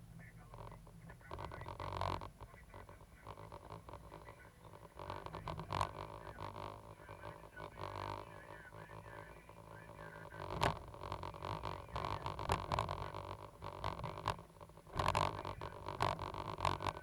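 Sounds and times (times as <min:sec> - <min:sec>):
excavator engine drone: 0:00.0 - 0:17.0.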